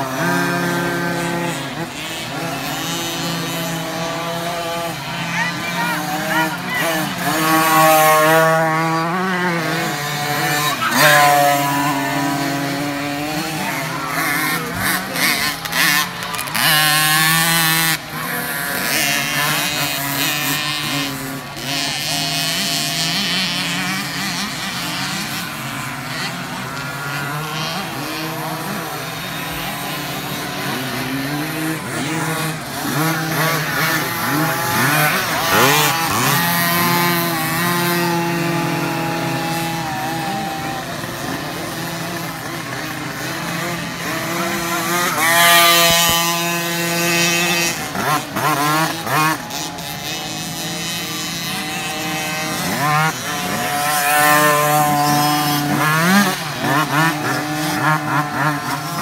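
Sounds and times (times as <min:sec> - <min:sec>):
motocross bike engines revving: 0:00.0 - 0:59.0.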